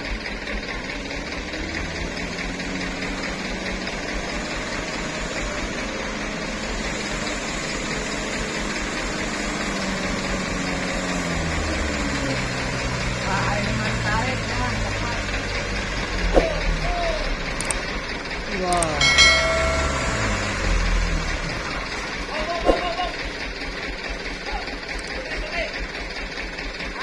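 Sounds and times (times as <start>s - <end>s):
more trucks climbing: 0.0s - 27.0s
truck diesel engine labouring: 0.0s - 27.0s.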